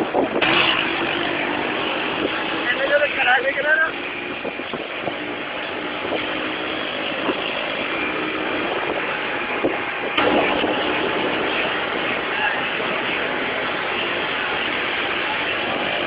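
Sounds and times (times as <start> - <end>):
motorcycle engine running: 0.0 - 16.0
road and wind noise: 0.0 - 16.0.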